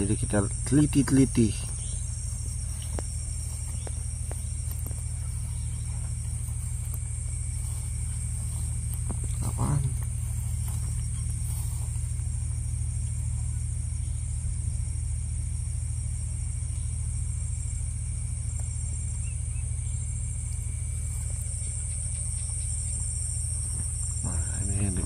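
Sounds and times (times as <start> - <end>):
crickets chirping: 0.0 - 25.0
low rumble: 0.0 - 25.0.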